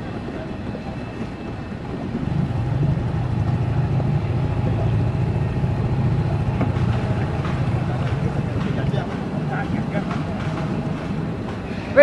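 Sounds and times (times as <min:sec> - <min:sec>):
motorboat engine running: 0:00.5 - 0:11.5.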